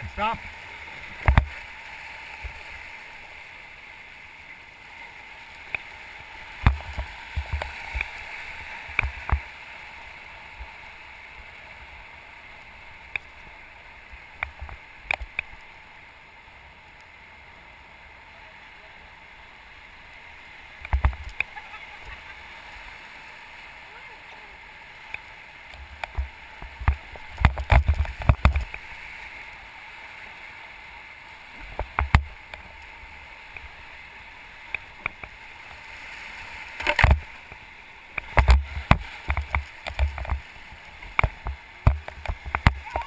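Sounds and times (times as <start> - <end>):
river water rushing: 0.0 - 43.0.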